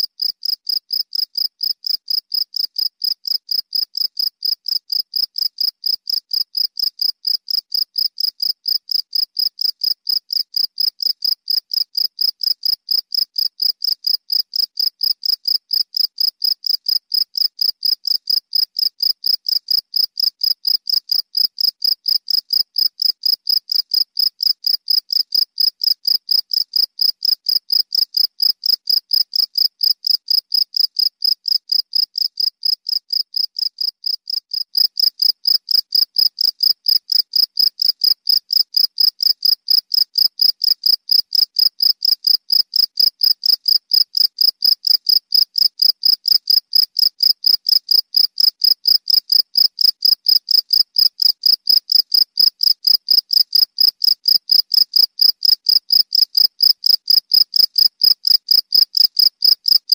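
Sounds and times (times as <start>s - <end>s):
cricket chirping: 0.2s - 59.9s.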